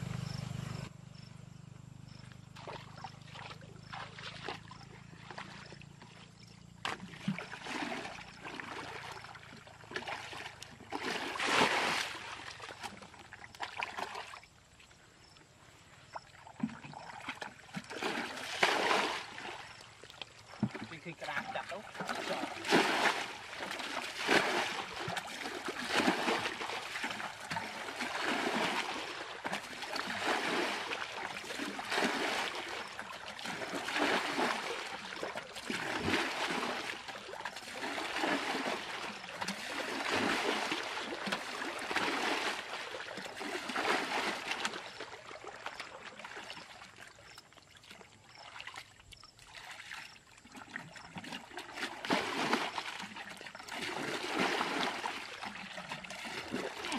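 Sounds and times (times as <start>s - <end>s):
bucket scooping and splashing water: 2.5s - 14.5s, 16.1s - 56.9s.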